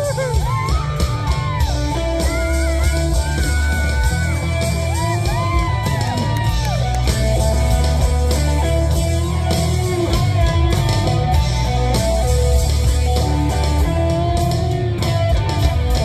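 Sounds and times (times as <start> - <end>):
high bending melody: 0.0 - 16.0
rock band playing live: 0.0 - 16.0.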